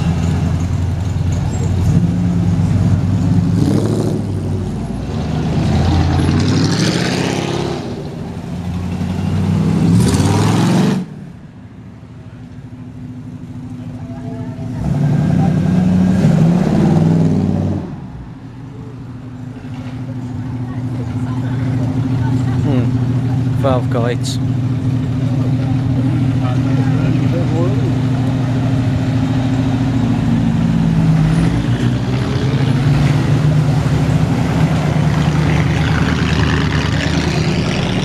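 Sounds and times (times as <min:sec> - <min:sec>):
car engines revving past: 0:00.0 - 0:11.4, 0:14.6 - 0:18.5, 0:19.1 - 0:38.0.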